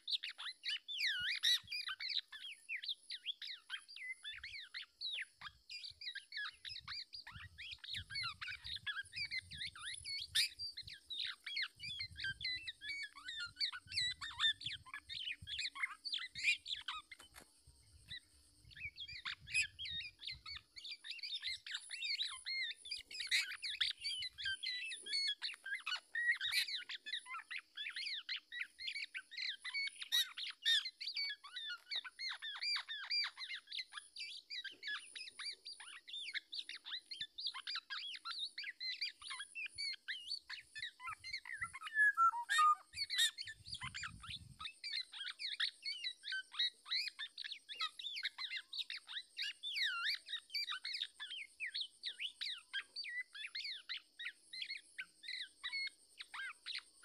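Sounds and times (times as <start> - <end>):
birds chirping and squawking: 0.0 - 57.0.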